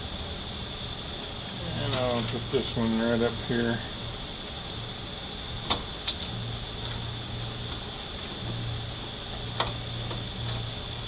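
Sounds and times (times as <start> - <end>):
steady hiss and low hum: 0.0 - 11.0.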